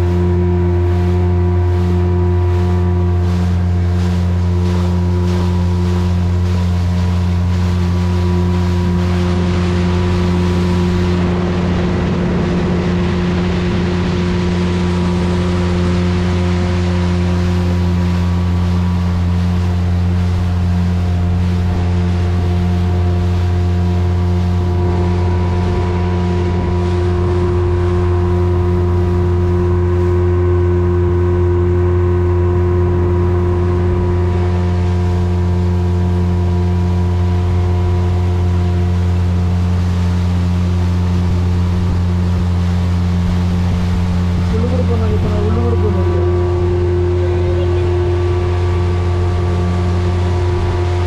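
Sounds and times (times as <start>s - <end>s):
speedboat engine droning: 0.0s - 51.0s.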